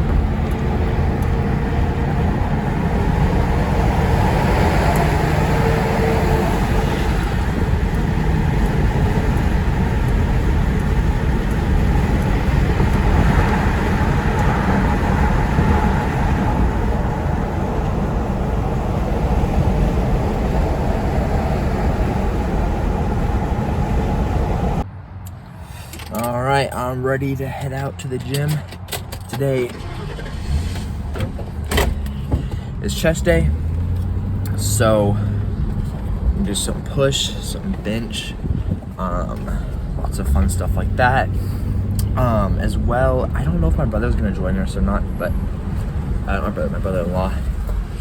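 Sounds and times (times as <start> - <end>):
car road and engine noise: 0.0 - 48.0.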